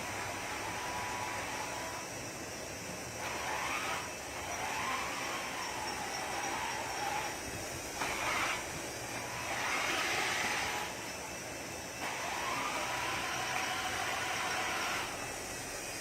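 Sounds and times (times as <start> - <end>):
rc truck motor whine: 0.0 - 16.0.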